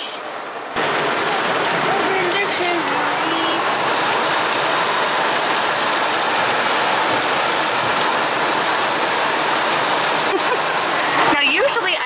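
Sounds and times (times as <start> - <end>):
heavy rain on a car roof: 0.0 - 12.0.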